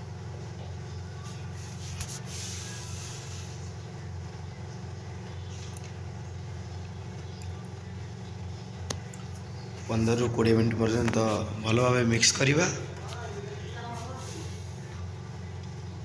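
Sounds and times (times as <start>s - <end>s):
low kitchen rumble: 0.0s - 16.0s.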